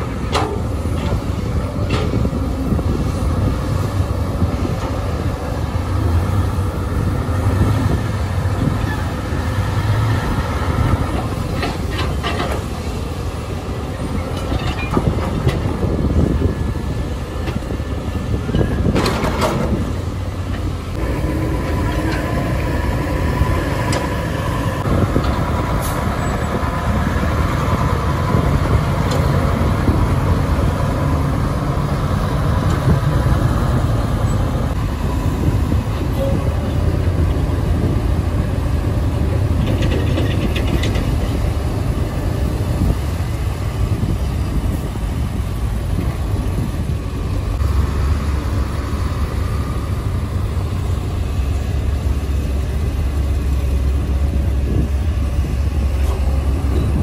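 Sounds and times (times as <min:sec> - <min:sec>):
diesel engines rumbling: 0:00.0 - 0:57.0.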